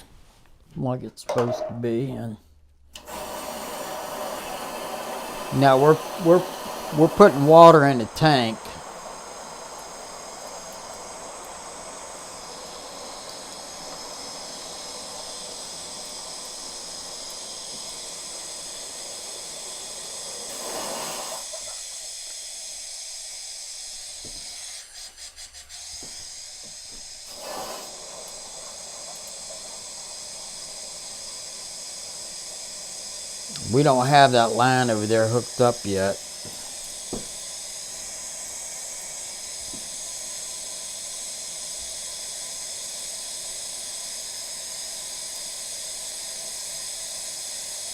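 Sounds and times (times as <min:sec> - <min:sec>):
water rushing into tank: 0:03.0 - 0:47.9.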